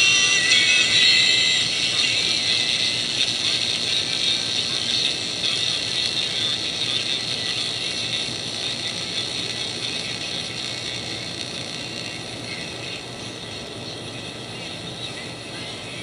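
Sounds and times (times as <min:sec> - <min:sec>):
faint radio whistles: 0:00.0 - 0:16.0
radio static hiss: 0:00.0 - 0:16.0.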